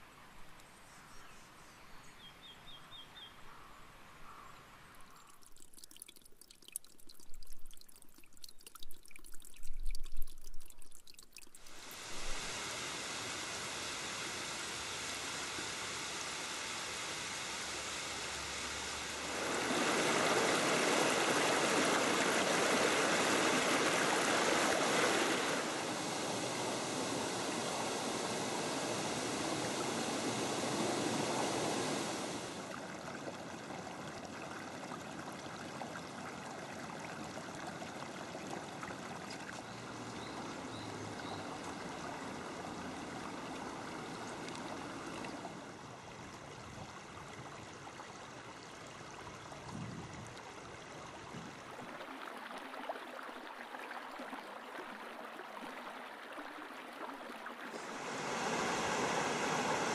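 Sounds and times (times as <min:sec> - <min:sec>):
stream running over rocks: 0:04.7 - 0:59.9.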